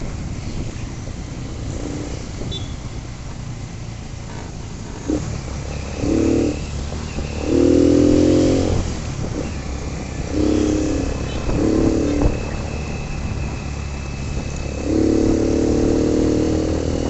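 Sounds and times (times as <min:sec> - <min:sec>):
motorcycle engine throttle surges: 0:00.0 - 0:17.0.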